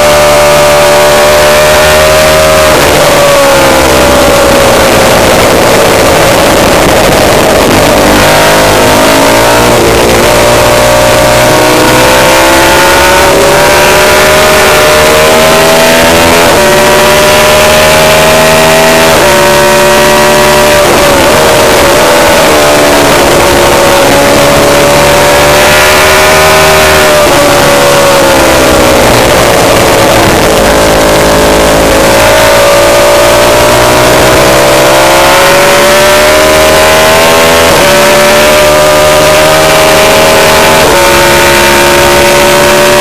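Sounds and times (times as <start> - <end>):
racing motorcycle engine: 0.0 - 43.0.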